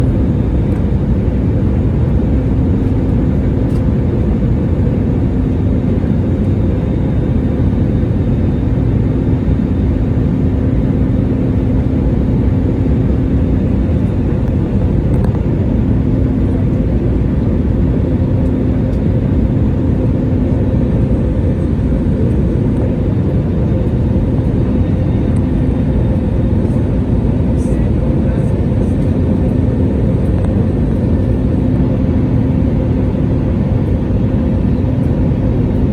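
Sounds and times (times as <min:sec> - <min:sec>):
airliner engines rumbling: 0:00.0 - 0:35.9
constant low hum: 0:00.0 - 0:35.9.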